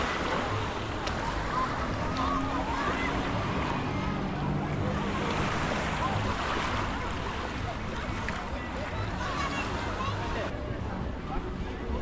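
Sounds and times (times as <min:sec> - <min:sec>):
faint voices of people: 0:00.0 - 0:12.0.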